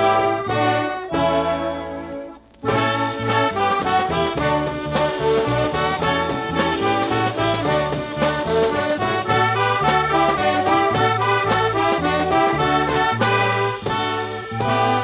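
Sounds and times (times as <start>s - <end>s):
accordion: 0.0s - 15.0s
bass line: 0.0s - 15.0s
brass: 0.0s - 15.0s.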